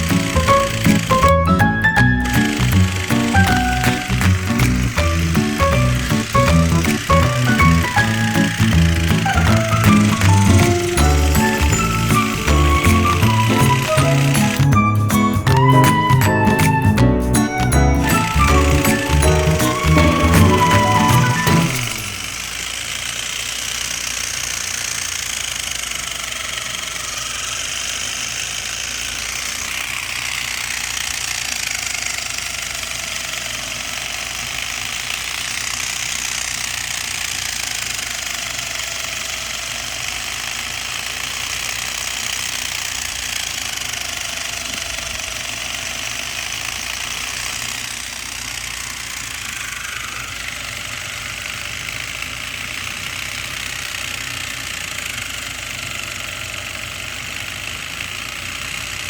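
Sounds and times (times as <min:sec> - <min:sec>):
small engine rattling: 0:00.0 - 0:59.0.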